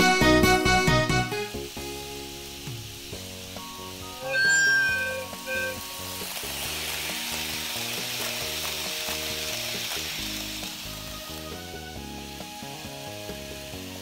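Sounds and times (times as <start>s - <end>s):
background music: 0.0s - 14.0s
model train rolling on track: 1.5s - 14.0s.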